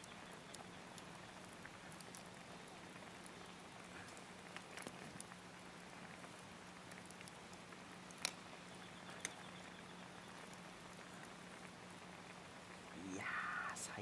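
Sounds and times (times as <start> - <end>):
campfire crackles: 0.0 - 14.0
soup simmering in a pot: 0.0 - 14.0.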